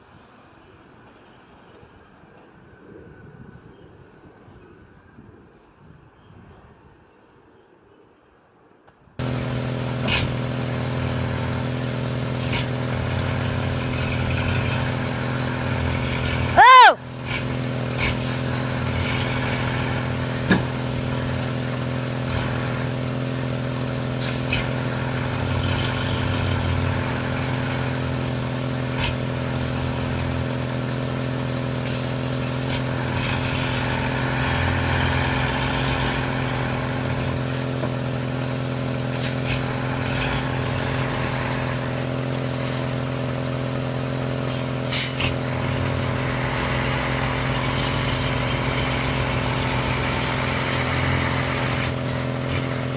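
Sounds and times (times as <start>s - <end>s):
heavy vehicle engine running: 9.2s - 52.9s.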